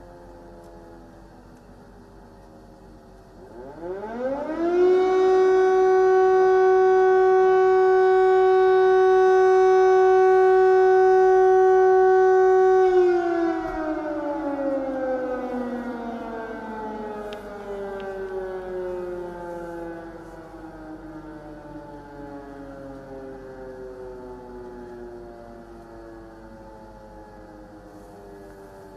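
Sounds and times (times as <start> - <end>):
air raid siren wailing: 0.0 - 28.9.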